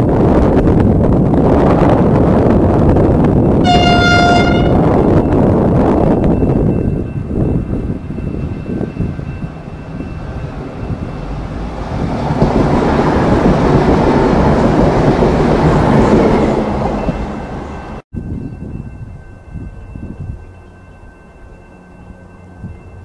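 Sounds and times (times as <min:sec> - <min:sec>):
diesel train passing: 0:00.0 - 0:23.0
train wheels on rails: 0:00.0 - 0:23.0.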